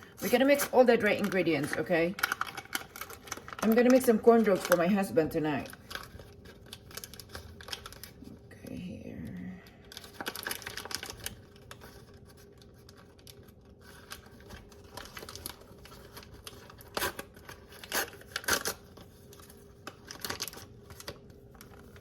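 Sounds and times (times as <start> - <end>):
paper packet crinkling and tearing: 0.0 - 8.4, 9.8 - 22.0.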